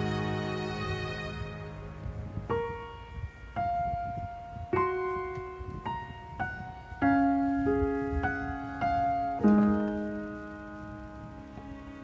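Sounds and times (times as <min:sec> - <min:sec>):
slow solo piano melody: 0:01.8 - 0:12.0.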